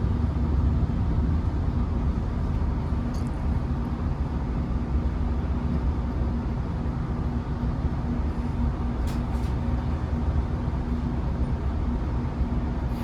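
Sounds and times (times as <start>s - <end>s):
constant hum: 0.0s - 13.0s
diesel train rumbling: 0.0s - 13.0s.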